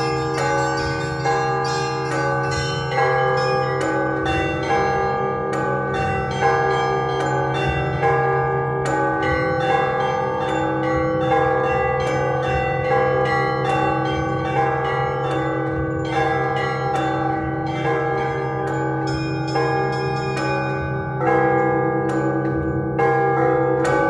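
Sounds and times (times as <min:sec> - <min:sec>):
church bells pealing: 0:00.0 - 0:24.0
deep bell low hum: 0:00.0 - 0:24.0
small bells chiming fast: 0:00.0 - 0:24.0.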